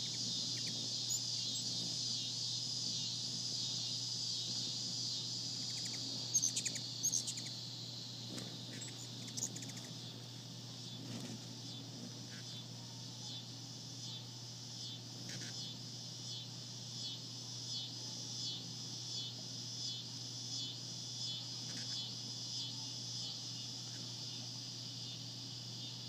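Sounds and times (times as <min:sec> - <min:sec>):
pulsing insect buzzing: 0:00.0 - 0:12.7, 0:13.3 - 0:25.8
constant low hum: 0:00.0 - 0:26.0.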